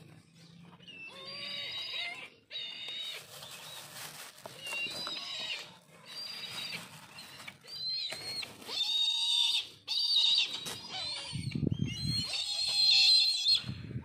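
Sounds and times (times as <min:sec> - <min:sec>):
bird calling high cries: 0:00.8 - 0:13.7.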